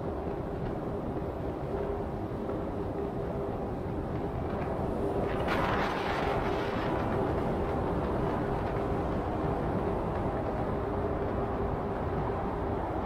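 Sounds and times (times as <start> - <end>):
tyre and road noise: 0.0 - 13.0.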